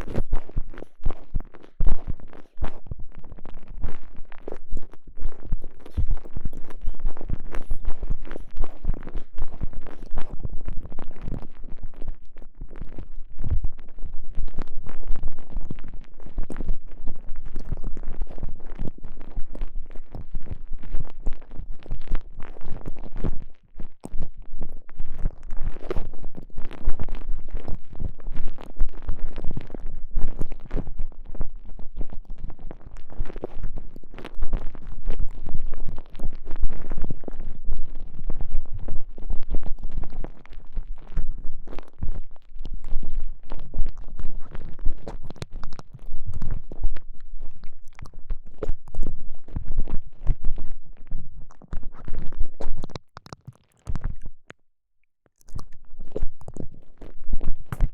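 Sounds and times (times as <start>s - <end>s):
muffled squishing and rubbing: 0.0s - 54.4s, 55.5s - 57.9s.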